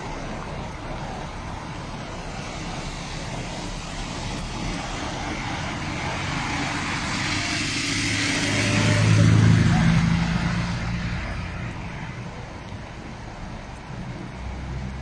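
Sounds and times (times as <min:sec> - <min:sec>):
steady rushing noise: 0:00.0 - 0:15.0
tyres hissing on wet street: 0:00.0 - 0:15.0
vehicle engine approaching: 0:00.0 - 0:15.0.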